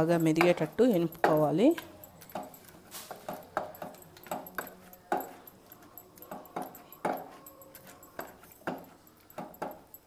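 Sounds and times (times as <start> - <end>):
hand masher squelching vegetables: 0.0 - 10.0.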